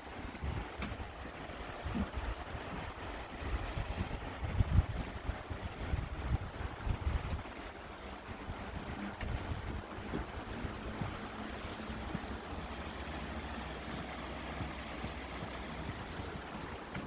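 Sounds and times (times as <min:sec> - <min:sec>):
steady outdoor hiss: 0:00.0 - 0:17.0
wind rumbling on microphone: 0:00.0 - 0:17.0.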